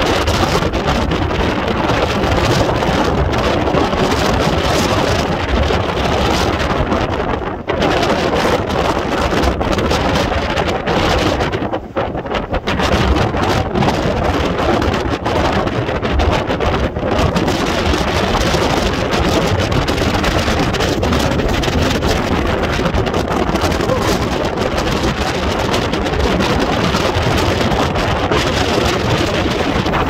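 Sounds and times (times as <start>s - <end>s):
strong wind on microphone: 0.0s - 30.0s.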